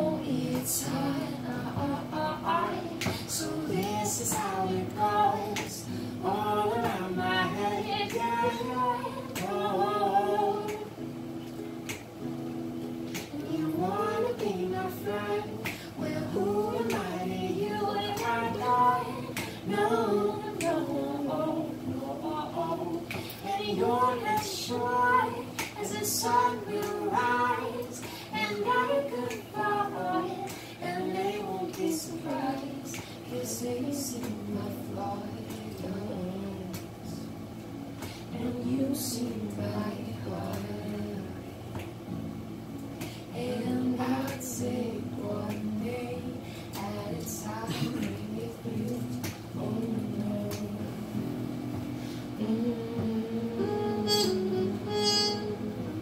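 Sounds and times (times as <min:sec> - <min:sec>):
man singing along: 0:00.0 - 0:11.0, 0:13.3 - 0:37.0, 0:43.3 - 0:51.2, 0:52.4 - 0:56.0
woman singing: 0:00.0 - 0:11.1, 0:13.2 - 0:37.2, 0:38.3 - 0:41.8, 0:43.2 - 0:51.2, 0:52.4 - 0:56.0
strummed acoustic guitar: 0:00.0 - 0:56.0.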